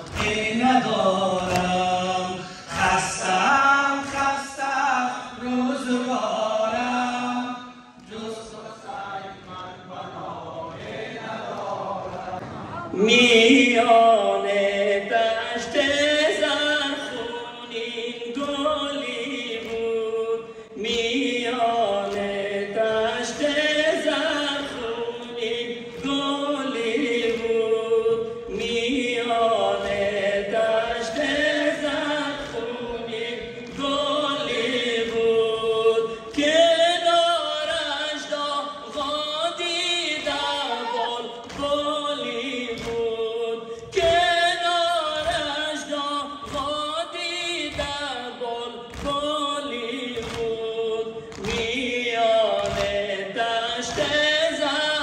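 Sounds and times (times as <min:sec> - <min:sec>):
group chanting a lament: 0:00.0 - 0:55.0.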